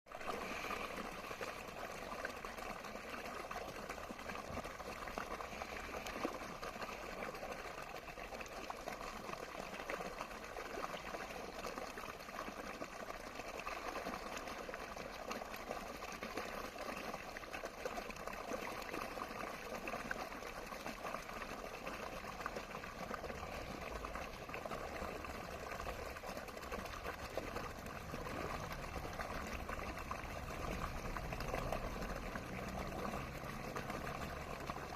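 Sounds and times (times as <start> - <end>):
running water splashing: 0.1 - 34.9.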